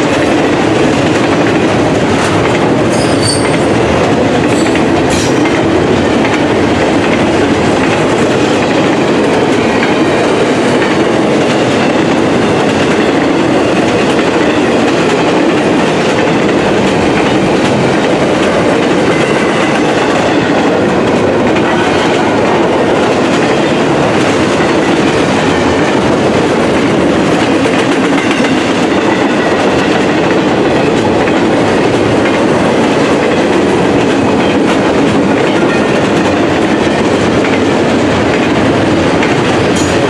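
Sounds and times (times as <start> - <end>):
freight train wheels on rails: 0.0 - 40.0.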